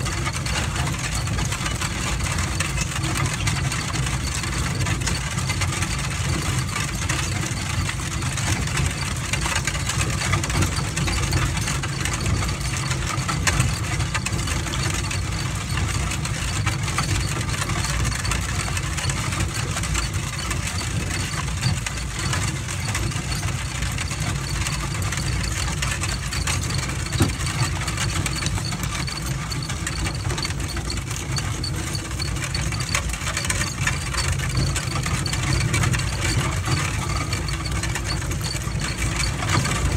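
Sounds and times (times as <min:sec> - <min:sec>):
chains and harness rattling: 0:00.0 - 0:39.9
wagon wheels crunching on gravel: 0:00.0 - 0:39.9.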